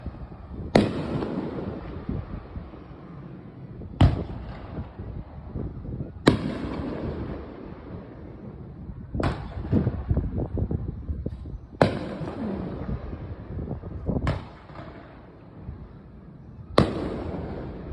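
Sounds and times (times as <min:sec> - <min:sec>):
fireworks bangs: 0:00.0 - 0:17.9.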